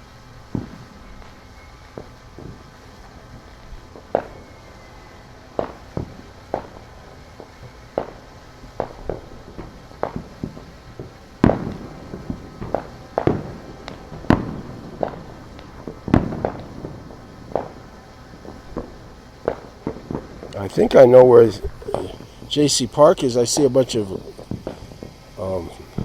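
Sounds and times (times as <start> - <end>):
distant fireworks banging: 0.0 - 26.0.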